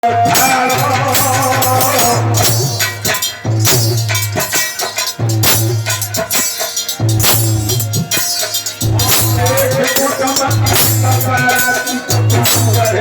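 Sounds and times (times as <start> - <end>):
held melodic notes: 0.0 - 13.0
rattling hand percussion: 0.0 - 13.0.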